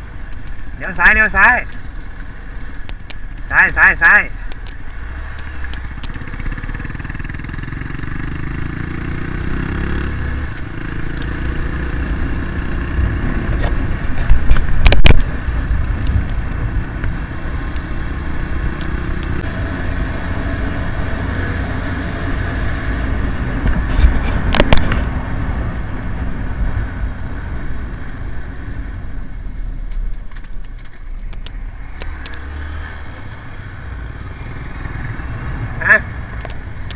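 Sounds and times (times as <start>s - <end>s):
motorcycle engine running: 4.3s - 36.9s.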